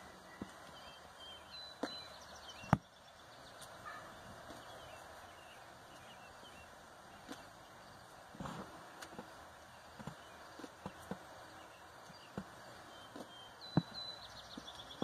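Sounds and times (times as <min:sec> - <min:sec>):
faint bird chirps: 0:00.0 - 0:08.3, 0:09.6 - 0:15.0
outdoor background hiss: 0:00.0 - 0:15.0.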